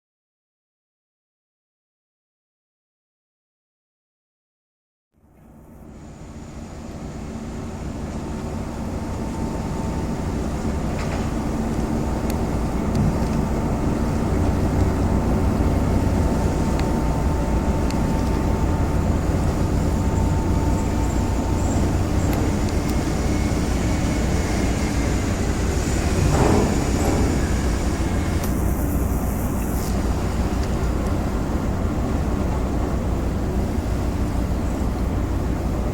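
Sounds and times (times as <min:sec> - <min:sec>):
ship diesel engines rumbling: 0:05.9 - 0:35.9.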